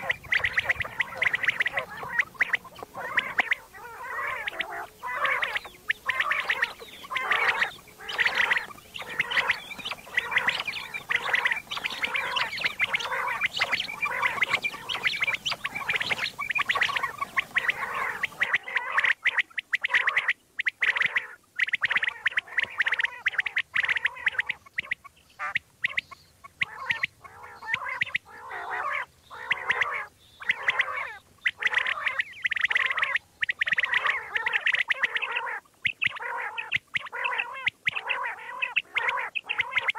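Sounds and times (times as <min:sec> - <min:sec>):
background hiss: 0:00.0 - 0:39.9
quail calling: 0:00.0 - 0:39.9.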